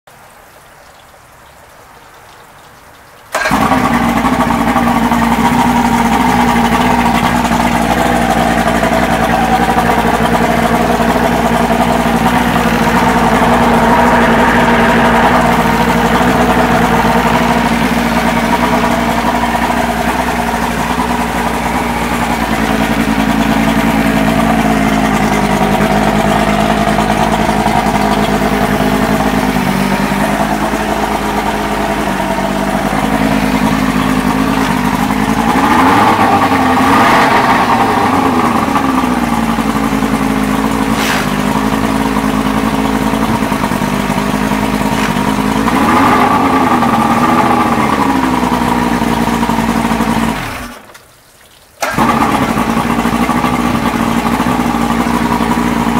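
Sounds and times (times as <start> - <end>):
outboard throttle blips: 3.3 - 50.9, 51.8 - 55.9
outboard motor running: 3.3 - 51.0, 51.8 - 55.9.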